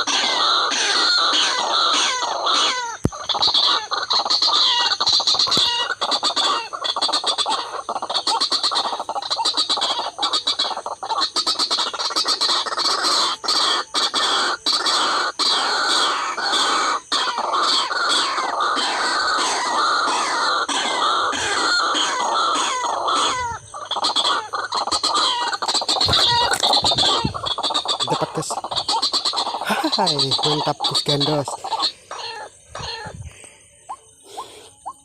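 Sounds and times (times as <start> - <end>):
waterhen harsh calls: 0.0 - 33.2.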